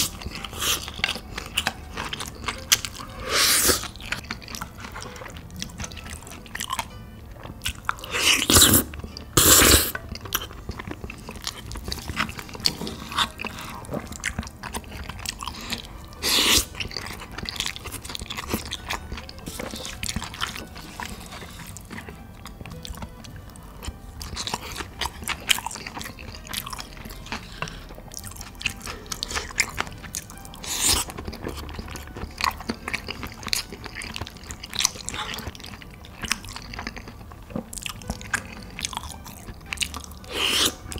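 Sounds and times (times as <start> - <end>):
man chewing with mouth sounds: 0.0 - 40.9.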